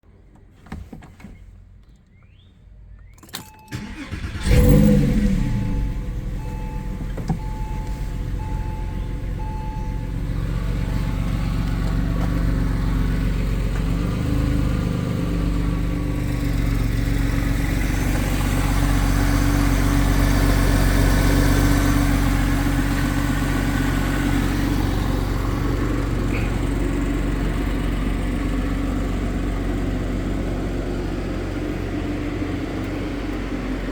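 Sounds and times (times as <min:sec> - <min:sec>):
car engine starting and idling: 0:02.9 - 0:33.9.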